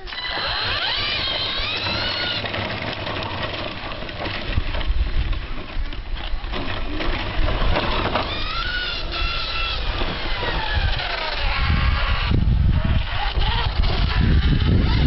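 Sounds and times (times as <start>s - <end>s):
toy car electric motor whining: 0.0s - 15.0s.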